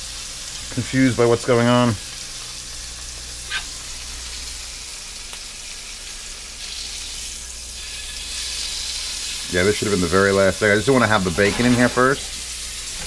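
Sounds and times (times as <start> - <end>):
food sizzling in hot pans: 0.0 - 13.0.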